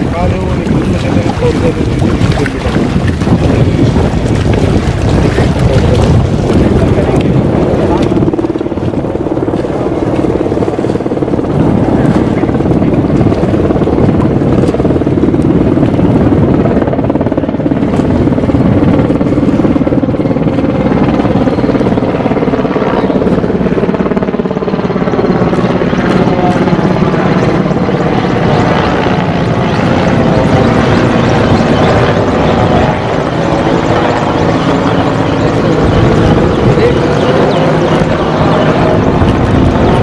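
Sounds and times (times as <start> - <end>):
helicopter rotor and turbine: 0.0 - 40.0.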